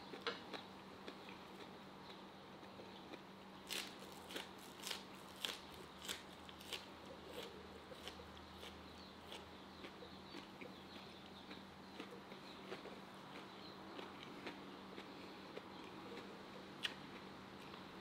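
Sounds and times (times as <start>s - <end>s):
quiet chewing: 0.0s - 18.0s.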